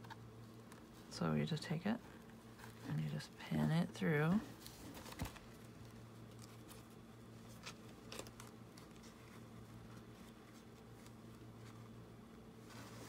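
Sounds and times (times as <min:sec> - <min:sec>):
faint low hum: 0:00.0 - 0:13.0
faint ticks and rustles of paper: 0:00.0 - 0:13.0.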